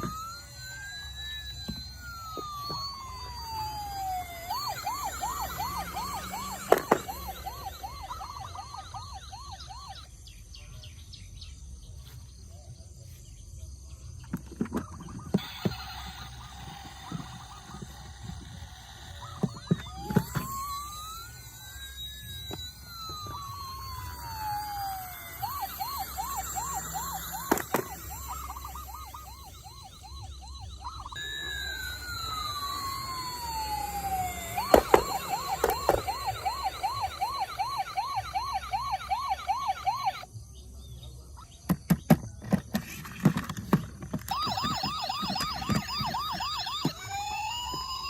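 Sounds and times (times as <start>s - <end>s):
toy electronic siren wailing: 0.0s - 10.6s, 14.2s - 48.0s.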